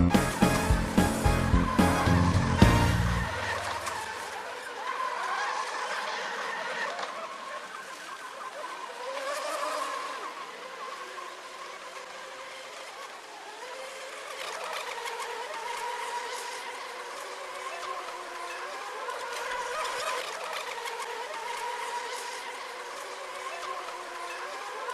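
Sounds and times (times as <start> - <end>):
model boat motors whining: 0.0 - 24.9.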